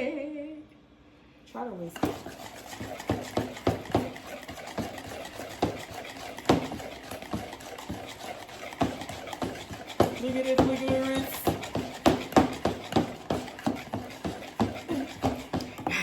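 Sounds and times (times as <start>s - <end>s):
hand whisk beating in a bowl: 2.0s - 16.0s.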